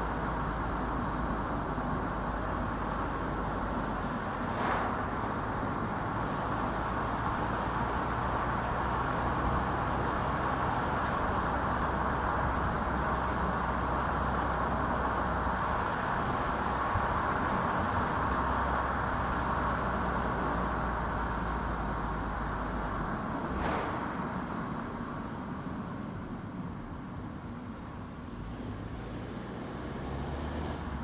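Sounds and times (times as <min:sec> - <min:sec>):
car tyre and road noise: 0:00.0 - 0:31.0.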